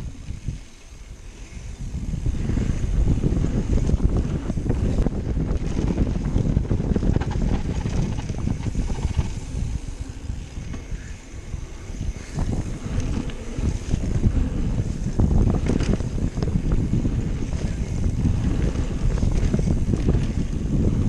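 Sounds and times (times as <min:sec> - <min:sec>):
bike tyres rumbling over dirt: 0:00.0 - 0:21.0
wind buffeting the microphone: 0:00.0 - 0:21.0.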